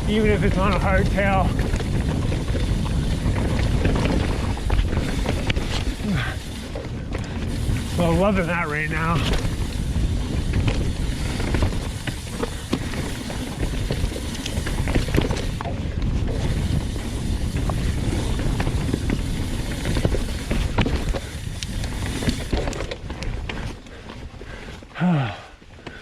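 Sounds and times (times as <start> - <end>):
bike clicking and rattling: 0.0 - 26.0
bike tyre noise on dirt: 0.0 - 26.0.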